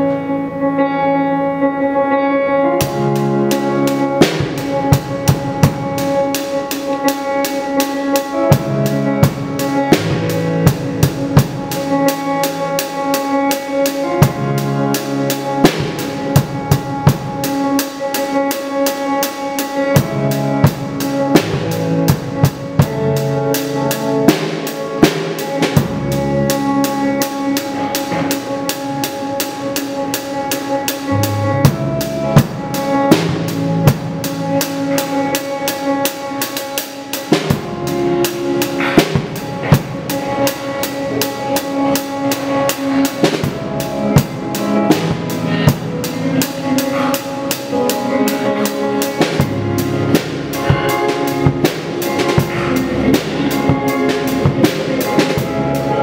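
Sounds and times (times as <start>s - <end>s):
synth chords: 0.0s - 56.0s
drum kit playing: 2.7s - 56.0s.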